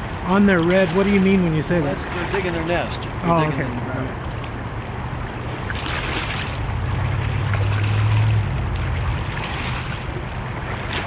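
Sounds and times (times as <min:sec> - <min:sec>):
rushing creek water: 0:00.0 - 0:11.0.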